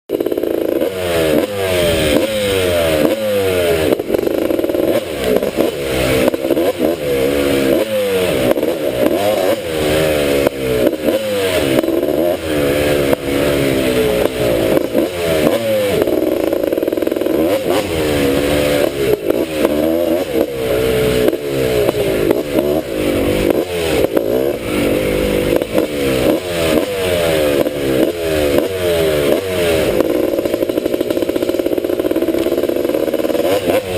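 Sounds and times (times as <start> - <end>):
two-stroke engine revving: 0.1 - 33.9.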